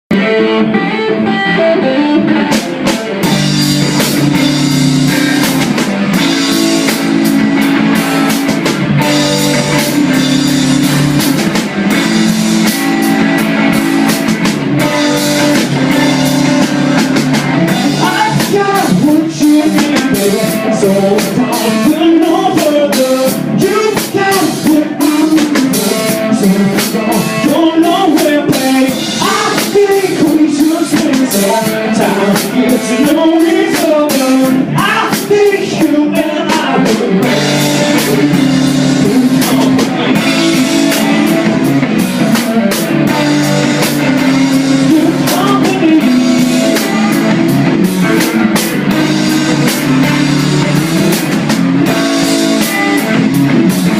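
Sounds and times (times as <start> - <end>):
drum kit: 0.1 - 53.9
guitar chords: 0.1 - 53.9.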